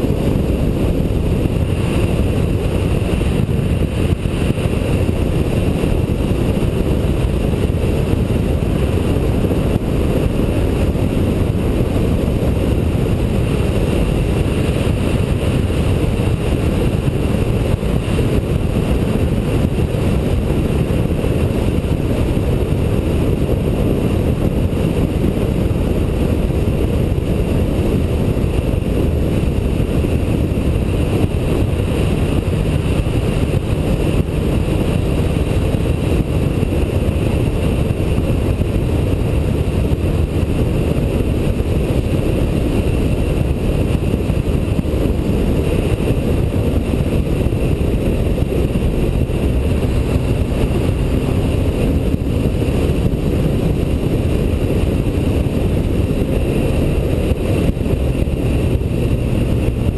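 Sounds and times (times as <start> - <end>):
motorcycle engine droning: 0.0 - 59.9
wind buffeting microphone: 0.0 - 59.9.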